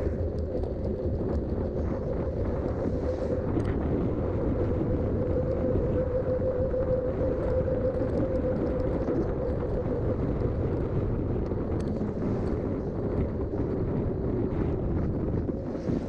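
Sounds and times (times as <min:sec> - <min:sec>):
bike tyres rolling: 0:00.0 - 0:16.0
wind on microphone: 0:00.0 - 0:16.0.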